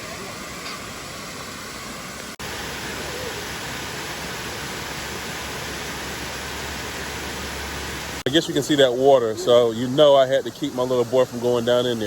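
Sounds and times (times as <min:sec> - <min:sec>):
rushing outdoor noise: 0:00.0 - 0:12.0.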